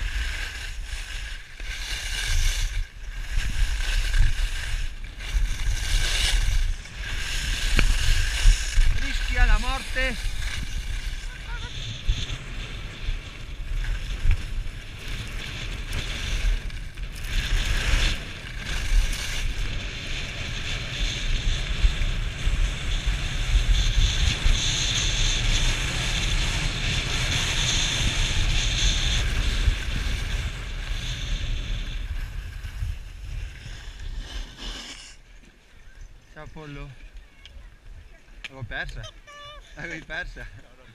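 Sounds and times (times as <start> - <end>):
wind buffeting microphone: 0.0 - 34.2
skis scraping over packed snow: 0.0 - 40.9.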